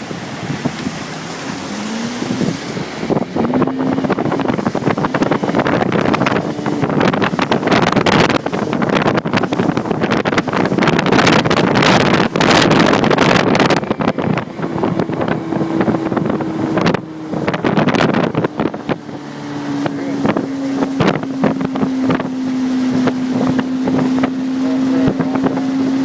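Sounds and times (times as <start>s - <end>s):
hull slapping on water: 0.0s - 26.0s
speedboat motor: 0.0s - 26.0s
wind on microphone: 0.0s - 26.0s.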